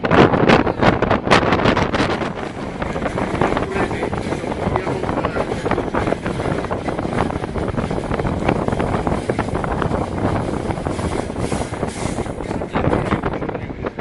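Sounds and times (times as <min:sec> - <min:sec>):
train wheels rumbling on rails: 0:00.0 - 0:14.0
carriage rattling and clatter: 0:01.9 - 0:13.6.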